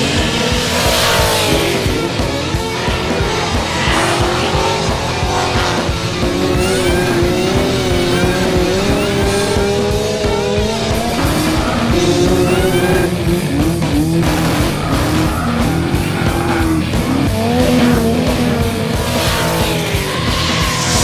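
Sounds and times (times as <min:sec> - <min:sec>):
background music with steady beat: 0:00.0 - 0:21.0
engine revving: 0:00.0 - 0:21.0
tyres squealing: 0:00.0 - 0:21.0.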